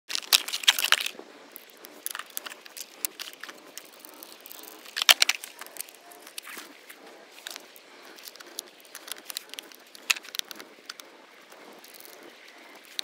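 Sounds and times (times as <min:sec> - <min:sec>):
paper rustling and crinkling: 0:00.1 - 0:13.0.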